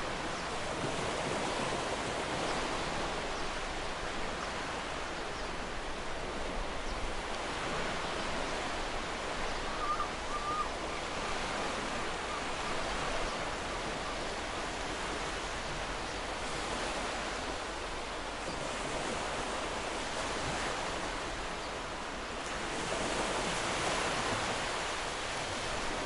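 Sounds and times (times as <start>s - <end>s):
ocean surf washing on beach: 0.0s - 26.0s.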